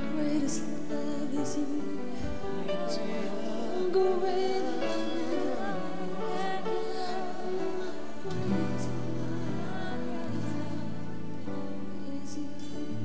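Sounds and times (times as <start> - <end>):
song with singing: 0.0 - 13.0.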